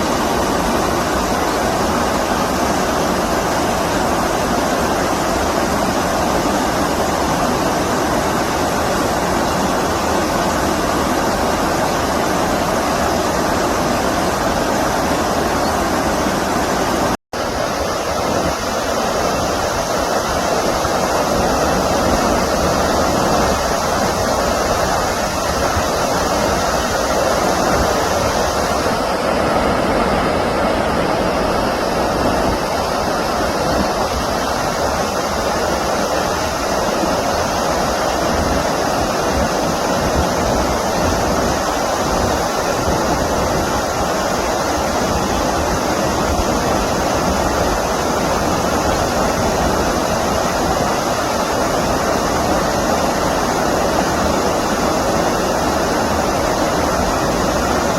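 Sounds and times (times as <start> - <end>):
stream water rushing over shallow bed: 0.0 - 57.9.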